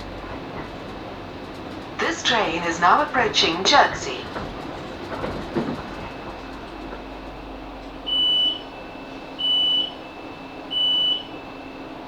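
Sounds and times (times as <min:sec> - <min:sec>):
stationary train hum: 0:00.0 - 0:12.0.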